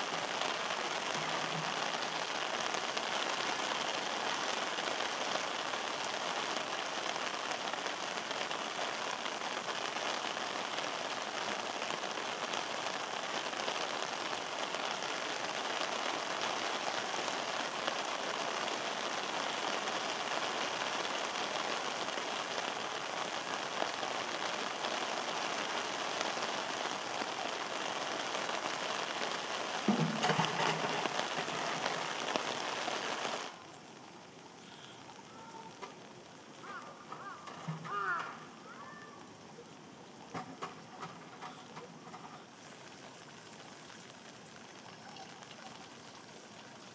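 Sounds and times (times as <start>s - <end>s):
rain on pavement and grass: 0.0s - 46.9s.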